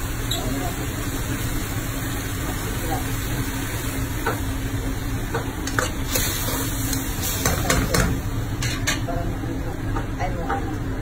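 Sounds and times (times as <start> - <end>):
oil sizzling in a frying pan: 0.0 - 10.9.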